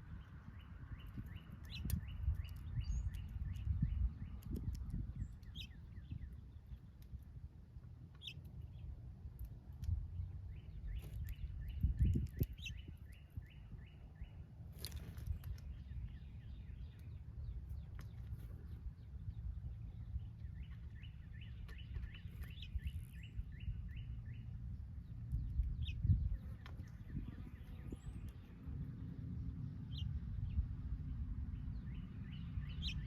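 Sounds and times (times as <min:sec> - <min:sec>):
songbird singing: 0:00.0 - 0:33.0
steady low rumble: 0:00.0 - 0:33.0.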